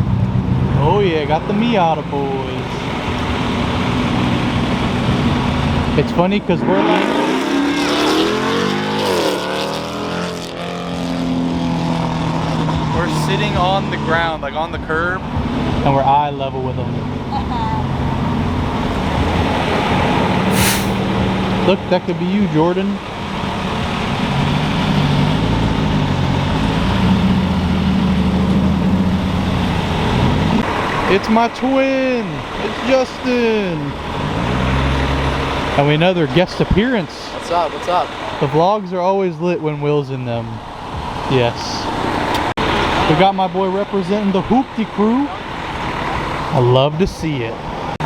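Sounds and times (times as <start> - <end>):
car engine revving and passing: 0.0 - 48.0.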